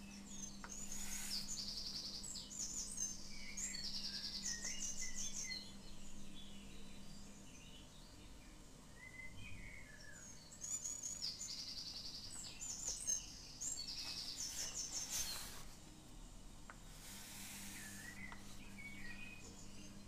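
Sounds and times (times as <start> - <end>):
small songbirds singing: 0.0 - 20.0.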